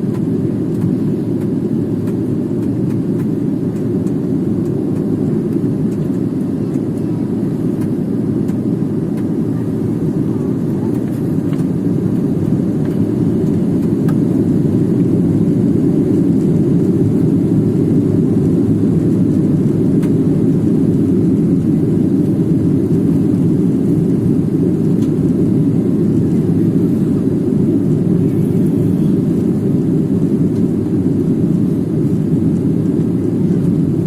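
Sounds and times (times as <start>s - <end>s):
airliner engines rumbling: 0.0s - 34.0s.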